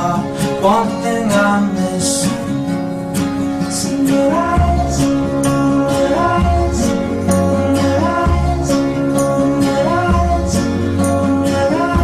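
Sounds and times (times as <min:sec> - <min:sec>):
song with vocals bass and beat: 0:00.0 - 0:12.0.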